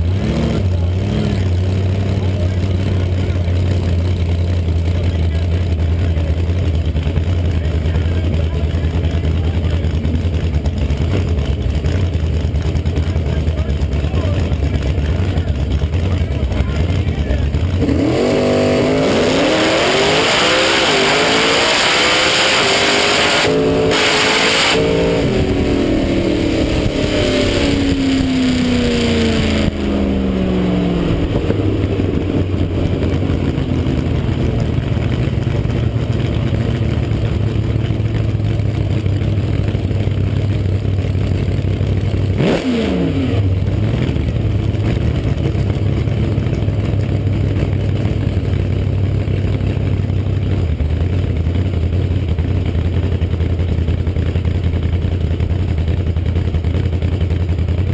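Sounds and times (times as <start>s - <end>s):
supercharged engine idling and revving: 0.0s - 57.9s.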